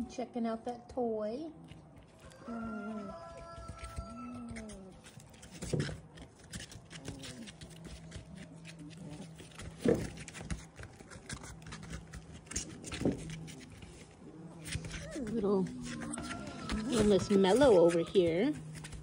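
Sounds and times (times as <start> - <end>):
puppy paws scratching on plastic: 0.5 - 19.0.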